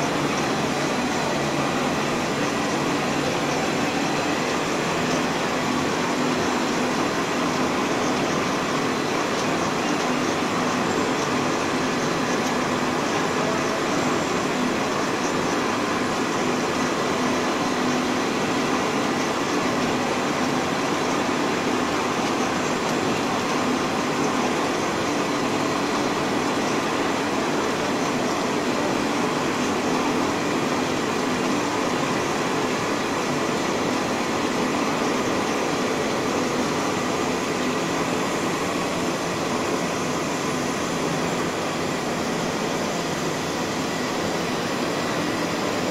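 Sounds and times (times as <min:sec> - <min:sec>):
faint motor hum: 0:00.0 - 0:45.9
production line machine noise: 0:00.0 - 0:45.9.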